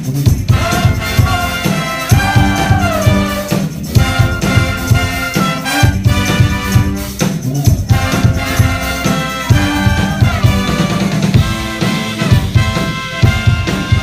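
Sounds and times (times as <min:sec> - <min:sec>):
brass band playing: 0:00.3 - 0:14.0.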